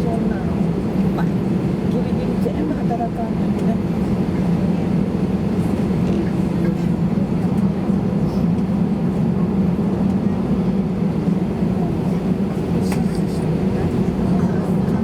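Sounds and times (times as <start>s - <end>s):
airliner engines droning in cabin: 0.0s - 15.0s.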